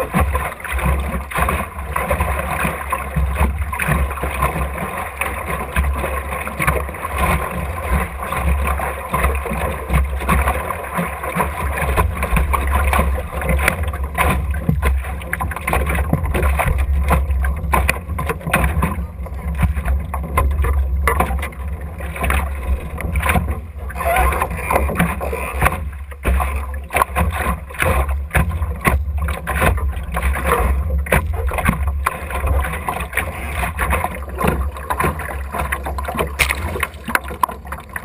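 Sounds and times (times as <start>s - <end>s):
water slapping against boat hull: 0.0s - 38.0s.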